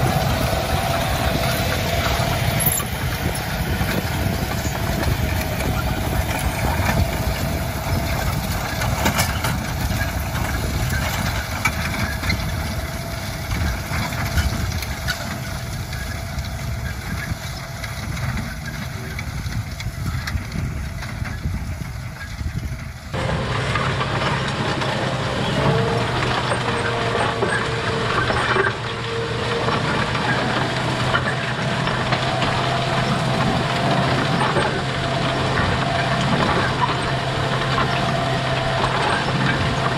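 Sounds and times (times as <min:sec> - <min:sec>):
planter row units clattering: 0:00.0 - 0:39.9
tractor engine running: 0:00.0 - 0:39.9.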